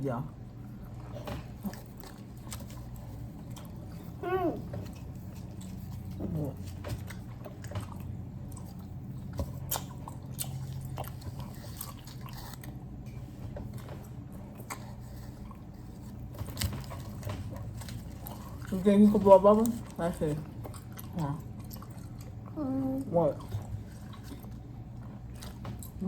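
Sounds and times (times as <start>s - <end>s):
wet gum chewing and smacking: 0.4s - 26.0s.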